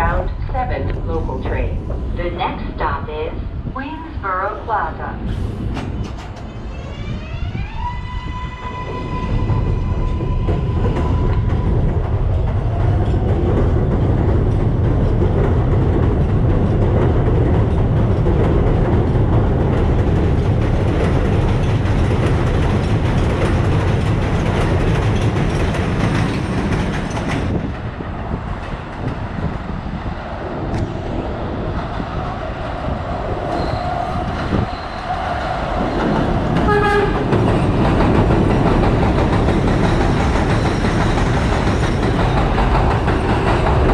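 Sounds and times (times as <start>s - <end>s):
subway traction motors whining: 0.0s - 43.9s
train wheels rumbling on rail: 0.0s - 43.9s.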